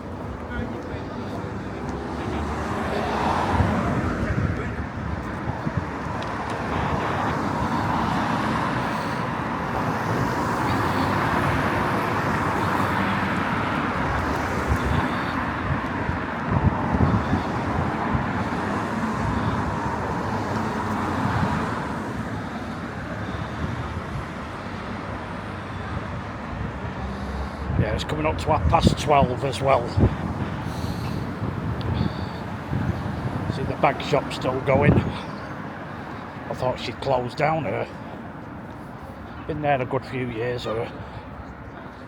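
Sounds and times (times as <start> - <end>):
cars passing: 0.0 - 42.0.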